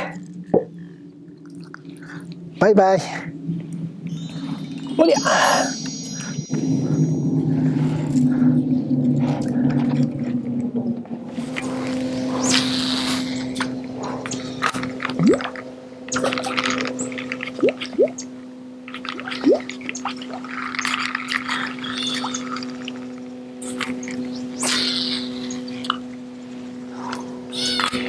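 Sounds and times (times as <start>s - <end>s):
electric motor hum: 3.3s - 28.0s.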